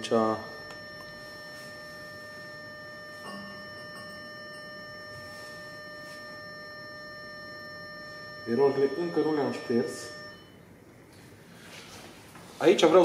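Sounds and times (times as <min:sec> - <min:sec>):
high-pitched electrical whine: 0:00.0 - 0:11.6.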